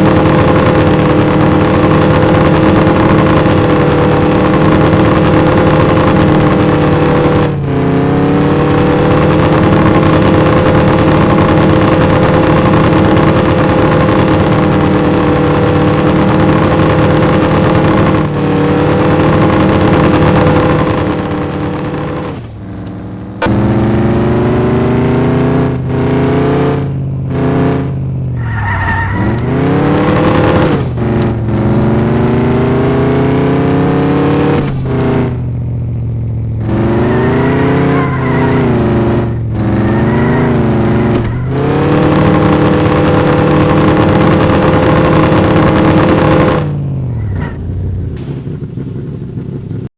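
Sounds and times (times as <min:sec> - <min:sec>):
truck engine revving: 0:00.0 - 0:49.9.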